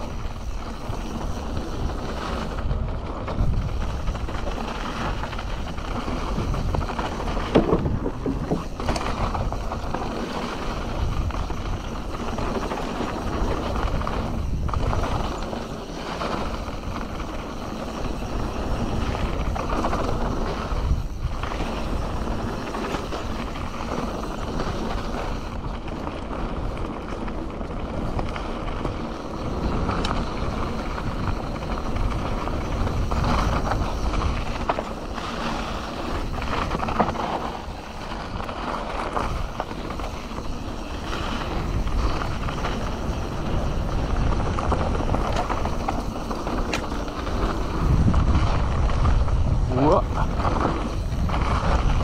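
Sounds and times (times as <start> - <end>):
bike tyres and frame rattling: 0.0 - 52.0
wind rushing over microphone: 0.0 - 52.0.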